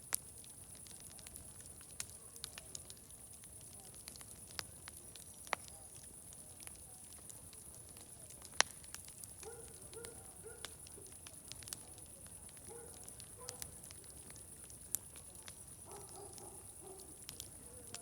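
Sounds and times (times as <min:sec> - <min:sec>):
faint hiss: 0:00.0 - 0:18.0
wood fire crackling and popping: 0:00.0 - 0:18.0.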